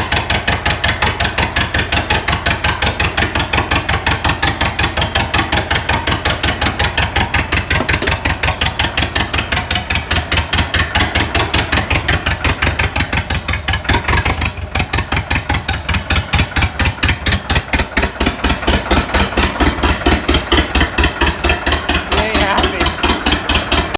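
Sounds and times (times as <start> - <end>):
diesel tractor engine knocking: 0.0 - 23.9.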